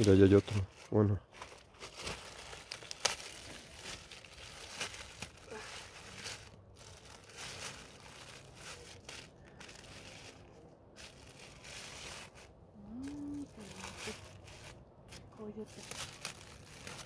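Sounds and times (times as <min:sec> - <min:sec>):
rustling and crinkling debris: 0:00.0 - 0:17.0.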